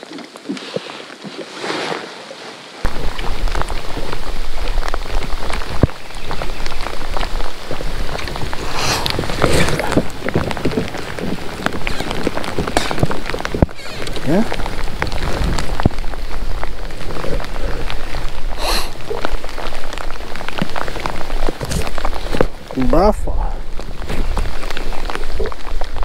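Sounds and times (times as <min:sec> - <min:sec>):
rain falling on water: 0:00.0 - 0:26.0
low rumble: 0:02.9 - 0:26.0.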